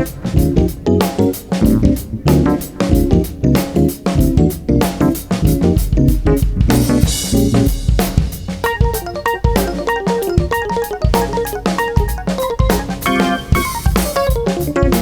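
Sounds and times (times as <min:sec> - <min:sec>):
bass and chords: 0:00.0 - 0:15.0
drum kit: 0:00.0 - 0:15.0
quick melodic line: 0:00.0 - 0:15.0.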